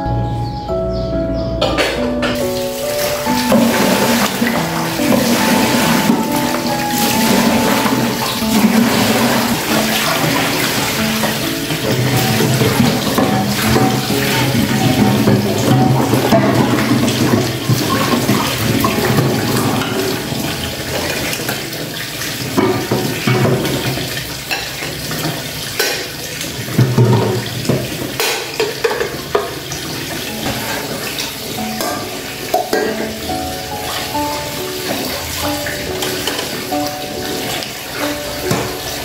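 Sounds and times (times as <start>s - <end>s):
metal pots clanking: 1.6s - 39.0s
tap water pouring into basin: 2.4s - 39.0s
water splashing: 2.4s - 39.0s.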